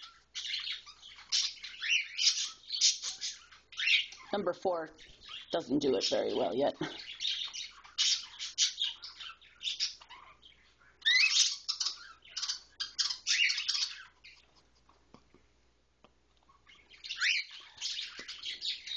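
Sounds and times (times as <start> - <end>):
chicks chirping high peeps: 0.0 - 4.3, 5.0 - 14.6, 16.4 - 18.9.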